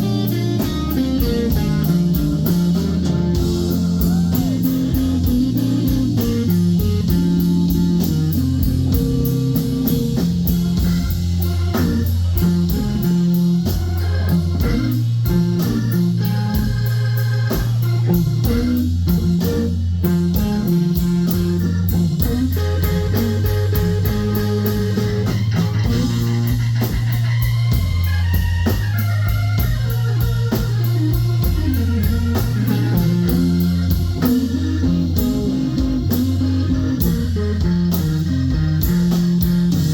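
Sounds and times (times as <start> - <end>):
bass: 0.0 - 39.9
drums with cymbal strikes: 0.0 - 39.9
electric guitar lines: 0.0 - 39.9
organ: 0.0 - 39.9.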